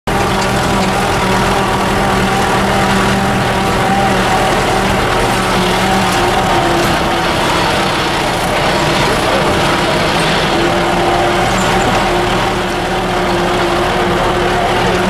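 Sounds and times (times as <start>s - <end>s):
vehicle engine running at low speed: 0.1s - 15.0s.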